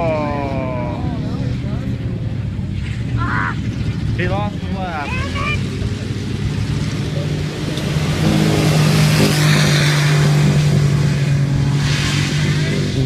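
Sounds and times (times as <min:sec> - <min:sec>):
buggy engine revving high: 0:00.0 - 0:13.0.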